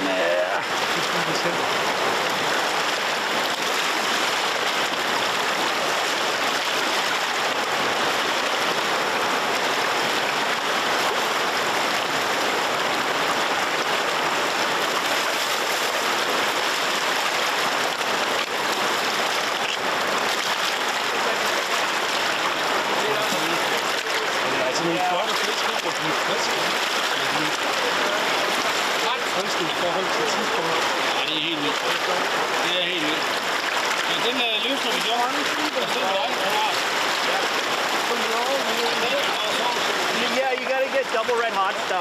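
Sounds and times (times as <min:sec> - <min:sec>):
river rushing over rapids: 0:00.0 - 0:42.0.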